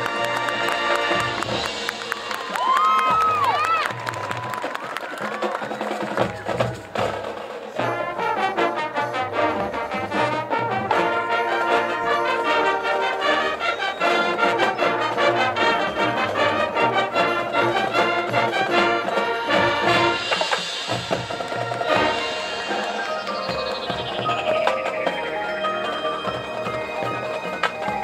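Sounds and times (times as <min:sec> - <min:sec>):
marching band brass: 0:00.0 - 0:28.0
marching band percussion: 0:00.0 - 0:28.0.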